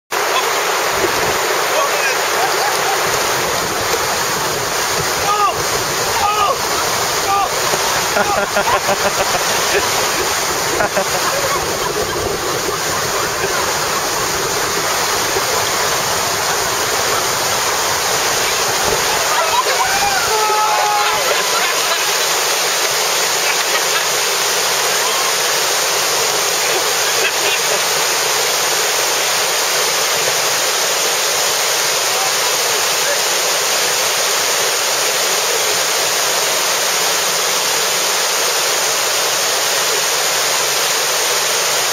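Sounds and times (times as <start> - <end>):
water rushing over a weir: 0.1 - 41.9.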